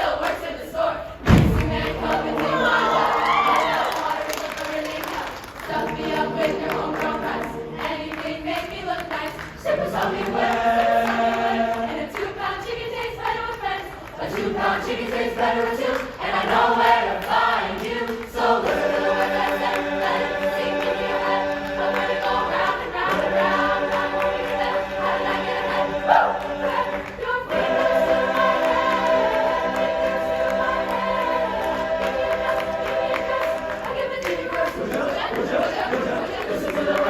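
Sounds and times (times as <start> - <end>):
choir singing held chords: 0.0 - 37.0.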